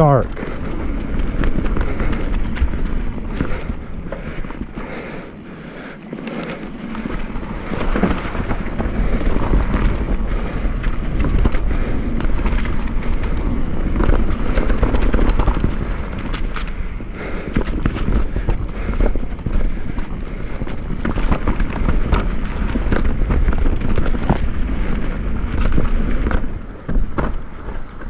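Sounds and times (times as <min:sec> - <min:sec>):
bike rattling and knocking: 0:00.0 - 0:28.0
tyre roar on dirt: 0:00.0 - 0:28.0
wind buffeting microphone: 0:00.0 - 0:28.0.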